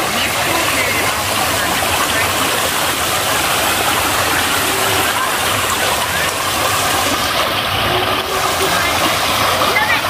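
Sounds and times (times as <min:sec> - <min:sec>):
rush of flowing water: 0:00.0 - 0:10.0.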